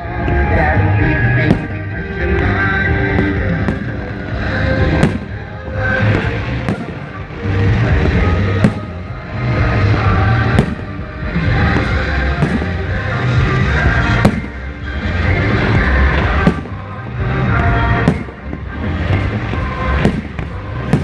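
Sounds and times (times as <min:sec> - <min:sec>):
music playing: 0:00.0 - 0:21.0
firework bangs: 0:00.5 - 0:21.0.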